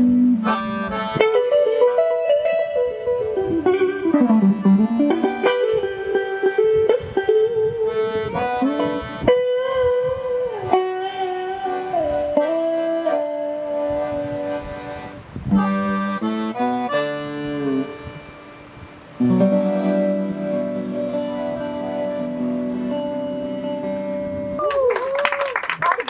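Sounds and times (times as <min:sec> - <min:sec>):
accordion melody: 0:00.0 - 0:24.3
plucked guitar: 0:00.0 - 0:24.6.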